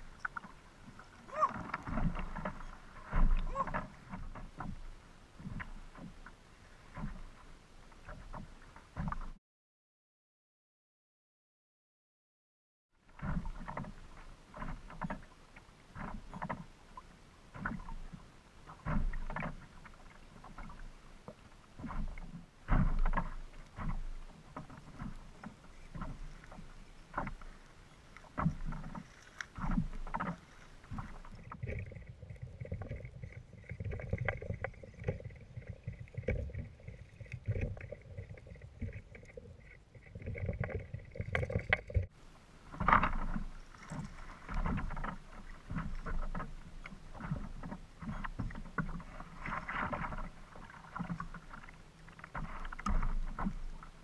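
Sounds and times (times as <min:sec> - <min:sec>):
water slapping against kayak hull: 0:00.0 - 0:09.4, 0:13.1 - 0:54.0.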